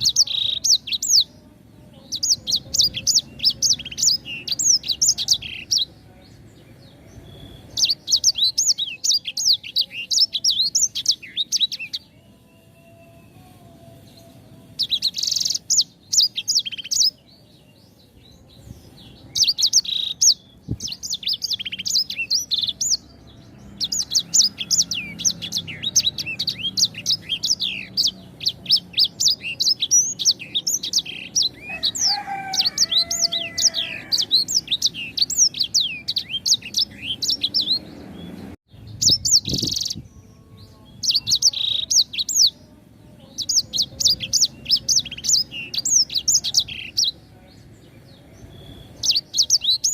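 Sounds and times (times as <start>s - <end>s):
cage bird chirping and twittering: 0.0s - 49.9s.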